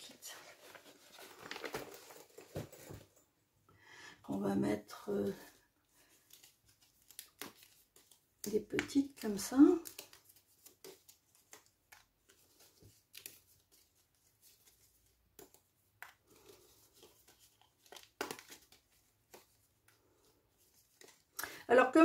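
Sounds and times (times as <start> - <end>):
paper rustling: 0.0 - 3.2, 6.0 - 21.4.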